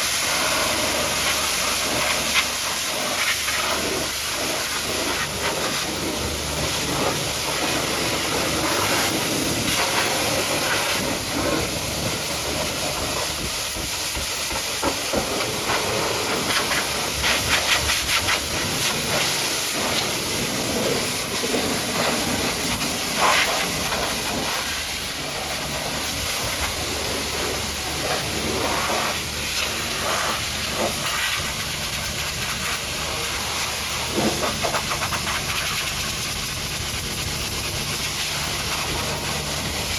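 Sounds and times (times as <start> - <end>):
water jet spraying and splashing: 0.0 - 39.9
low steady hum: 0.1 - 39.9.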